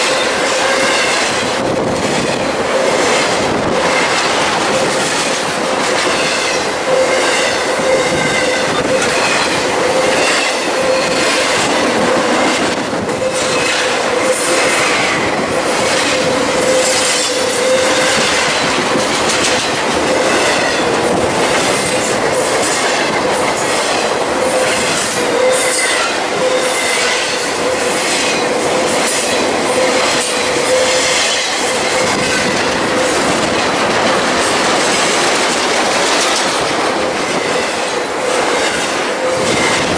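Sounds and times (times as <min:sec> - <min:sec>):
train wheels squealing: 0:00.0 - 0:20.9, 0:21.6 - 0:33.6, 0:37.2 - 0:39.9
freight train rolling past: 0:00.0 - 0:39.9
wheels clicking over rail joints: 0:00.0 - 0:39.9.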